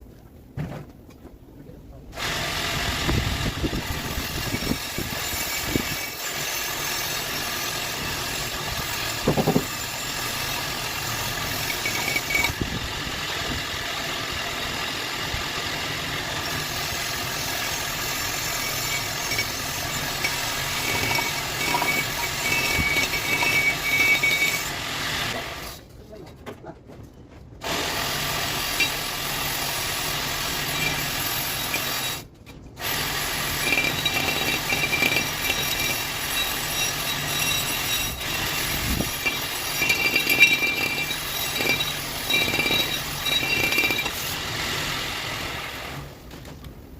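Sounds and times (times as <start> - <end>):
wire brush grinder on steel: 2.2 - 25.8, 27.6 - 46.1.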